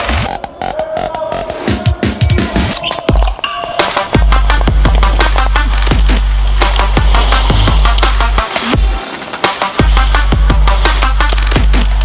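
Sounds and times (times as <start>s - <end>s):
drum and bass music: 0.0s - 12.0s.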